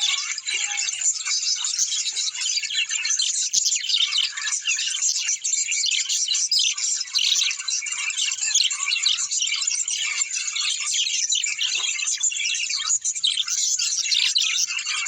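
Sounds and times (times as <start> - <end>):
flock of small birds chirping: 0.0 - 15.0.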